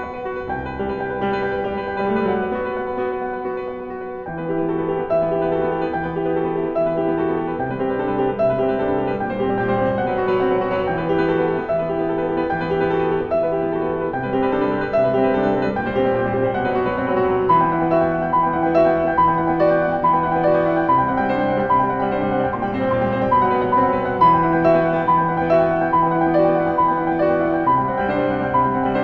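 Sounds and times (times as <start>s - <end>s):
solo grand piano piece: 0.0s - 29.0s.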